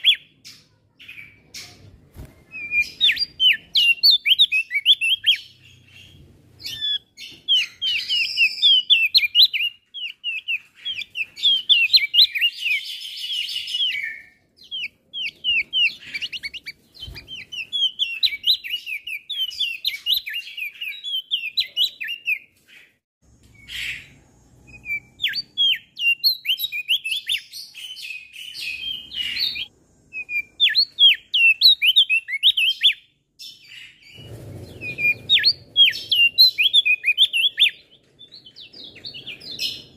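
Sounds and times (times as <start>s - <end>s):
bird chattering song: 0.0s - 1.8s, 2.5s - 23.0s, 23.6s - 39.9s.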